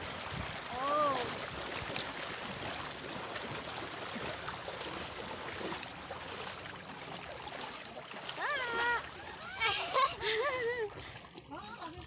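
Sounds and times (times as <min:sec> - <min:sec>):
river water rushing and trickling: 0:00.0 - 0:12.0.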